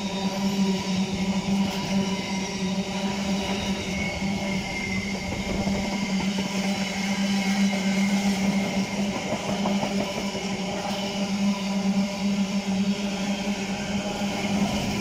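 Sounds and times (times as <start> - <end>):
train droning hum: 0.0 - 15.0.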